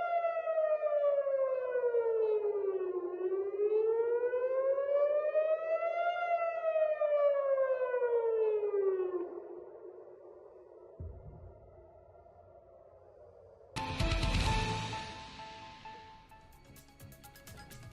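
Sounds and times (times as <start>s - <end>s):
air raid siren wailing: 0.0s - 16.4s.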